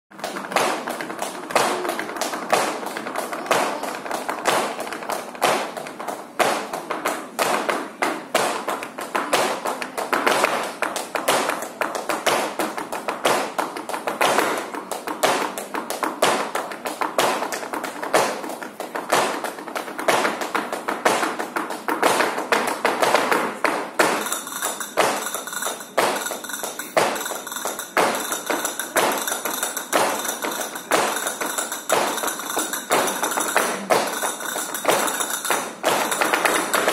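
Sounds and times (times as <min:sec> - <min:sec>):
tap shoes clicking on stage: 0:00.1 - 0:36.9.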